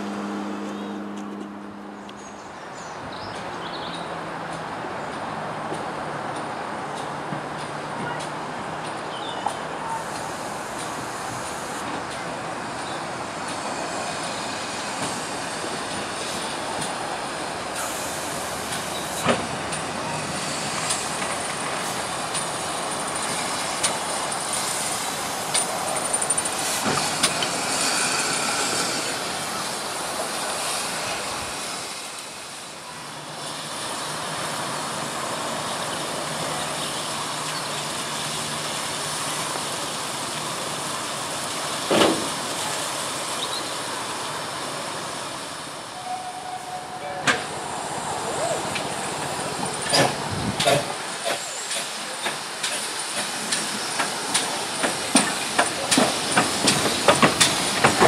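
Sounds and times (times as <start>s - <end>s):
train rumbling with wheel clicks: 3.1s - 43.7s, 47.2s - 47.8s, 48.4s - 58.0s.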